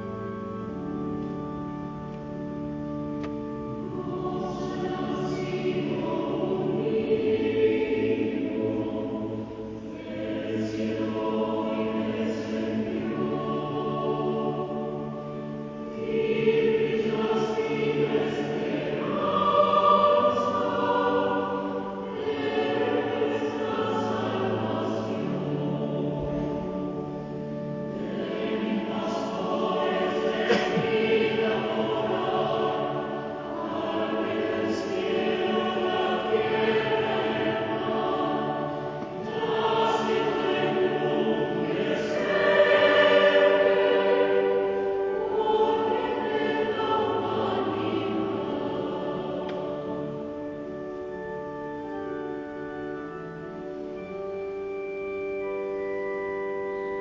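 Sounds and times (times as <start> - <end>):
mixed choir singing: 3.7 - 51.3.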